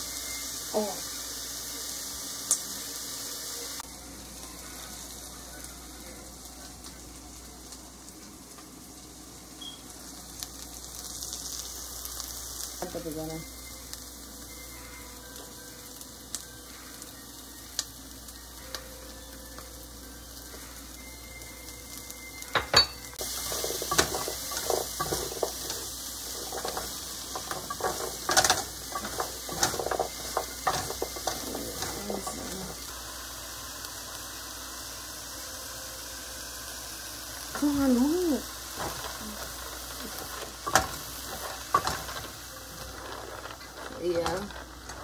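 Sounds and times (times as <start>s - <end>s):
onions sizzling in a pot: 0.0s - 45.0s.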